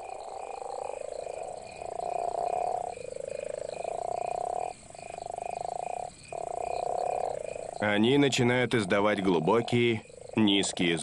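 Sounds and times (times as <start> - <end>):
toads calling in chorus: 0.0 - 11.0.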